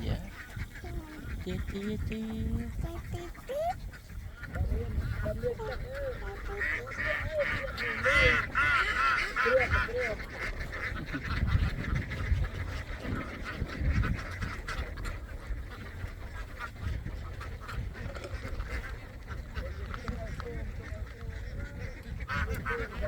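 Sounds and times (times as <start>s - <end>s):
flock of ducks quacking: 0.0s - 23.0s.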